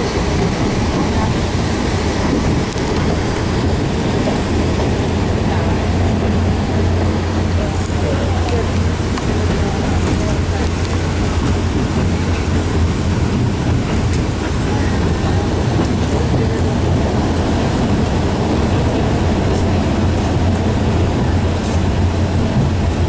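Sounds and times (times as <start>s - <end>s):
low rumble of running train: 0.0s - 23.0s.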